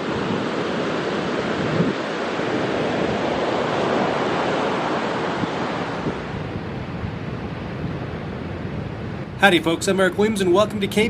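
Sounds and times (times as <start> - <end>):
surf breaking ashore: 0.0 - 11.0
wind on microphone: 0.0 - 11.0.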